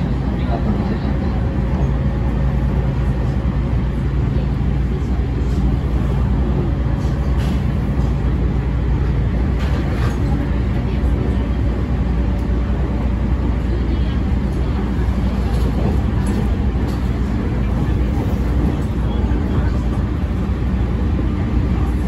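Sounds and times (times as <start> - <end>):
low rumble of train wheels: 0.0 - 22.0.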